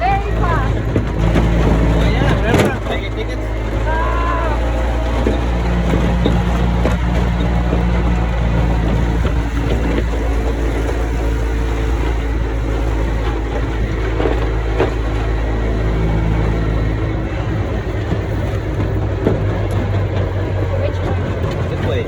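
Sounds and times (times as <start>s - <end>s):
vehicle engine drone: 0.0s - 22.0s
vehicle knocks and jolts: 0.0s - 22.0s.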